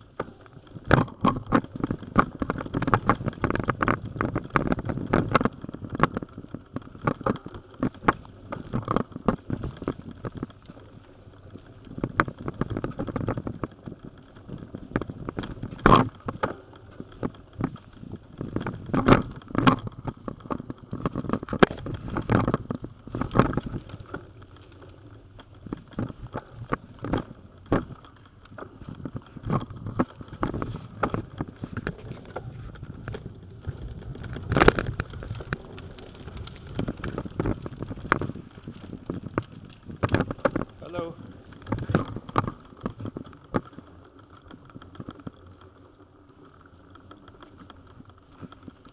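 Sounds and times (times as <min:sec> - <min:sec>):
bicycle tyres rumbling: 0:00.0 - 0:48.9
bike rattling over bumps: 0:00.0 - 0:48.9.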